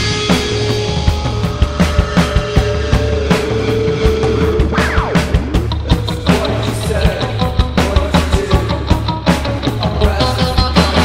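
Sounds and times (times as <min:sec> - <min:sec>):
drums hitting: 0:00.0 - 0:09.2
sustained bass notes: 0:00.0 - 0:10.7
distorted guitars: 0:00.0 - 0:11.0.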